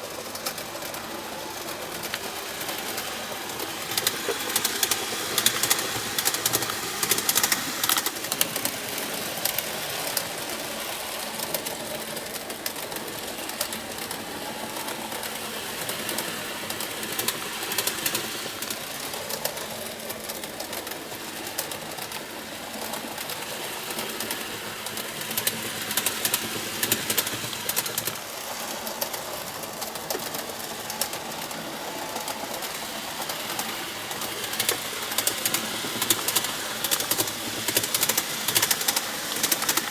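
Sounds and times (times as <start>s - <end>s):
model train motor whirring: 0.0s - 39.9s
wheels clicking over rail joints: 0.0s - 39.9s.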